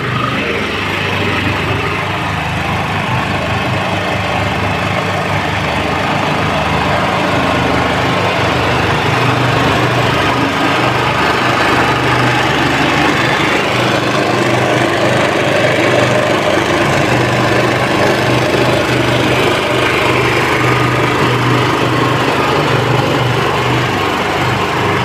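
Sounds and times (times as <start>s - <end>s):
road roller engine shuddering: 0.0s - 25.0s.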